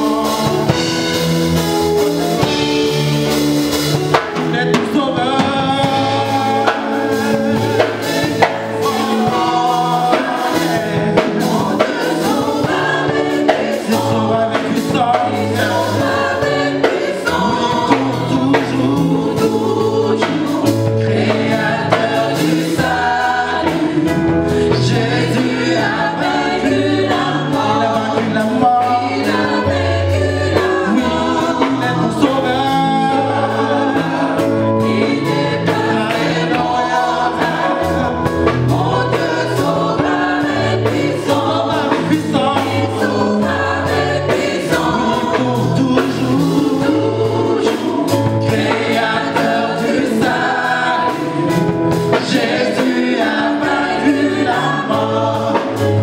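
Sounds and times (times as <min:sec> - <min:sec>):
women singing gospel: 0:00.0 - 0:03.0, 0:03.6 - 0:56.0
band playing: 0:00.0 - 0:56.0
bass line: 0:00.0 - 0:56.0.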